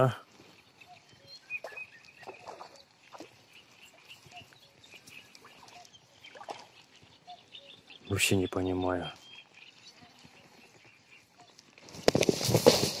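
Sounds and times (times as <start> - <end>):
high bird chirps: 0.5 - 12.1.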